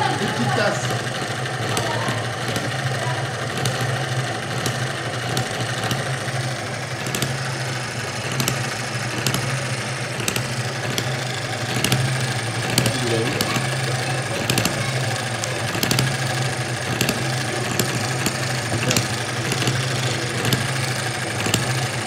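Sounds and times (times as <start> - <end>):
hit-and-miss engine firing: 0.0 - 22.0
steady low hum: 0.0 - 22.0.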